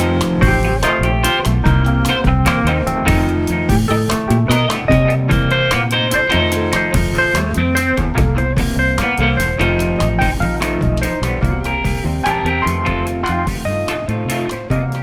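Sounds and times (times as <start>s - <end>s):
drum kit steady beat: 0.0s - 15.0s
guitar: 0.0s - 15.0s.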